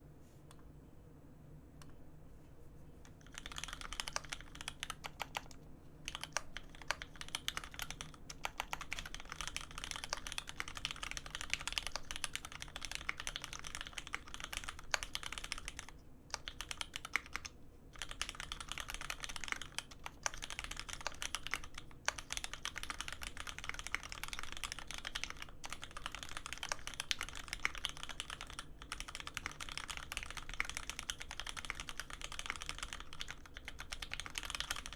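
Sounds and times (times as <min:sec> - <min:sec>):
mechanical keyboard typing: 0:03.1 - 0:34.9.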